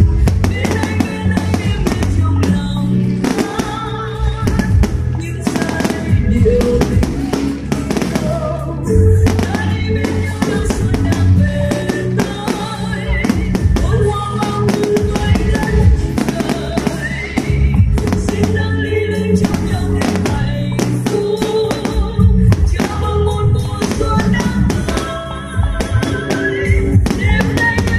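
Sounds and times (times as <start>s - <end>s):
fireworks banging and crackling: 0.0s - 27.9s
music playing: 0.0s - 27.9s.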